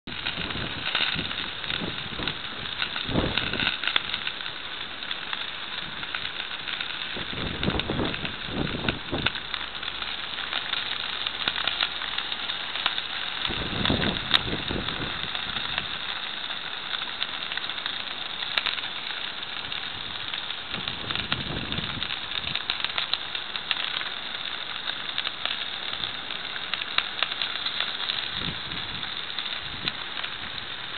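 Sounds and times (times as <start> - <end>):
crackles and pops: 0.0 - 30.9
food sizzling on grill: 0.0 - 30.9.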